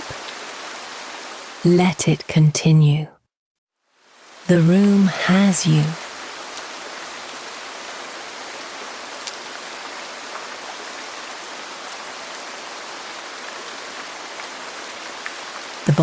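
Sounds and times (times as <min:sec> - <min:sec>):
rain on a roof: 0:00.0 - 0:01.7, 0:03.9 - 0:05.1, 0:05.8 - 0:16.0.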